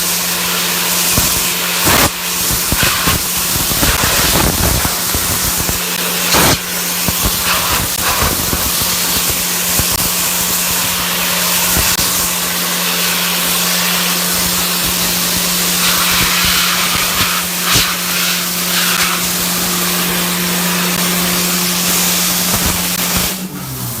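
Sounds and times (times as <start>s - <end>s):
dry ice blaster hissing: 0.0s - 24.0s.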